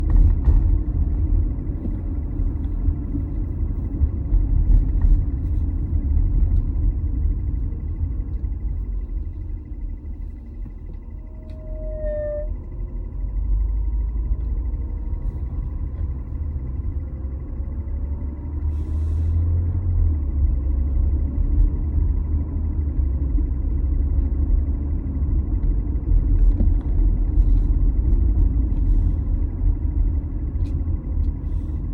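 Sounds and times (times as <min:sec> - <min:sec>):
car engine rumble: 0:00.0 - 0:31.9
faint whine: 0:00.0 - 0:31.9.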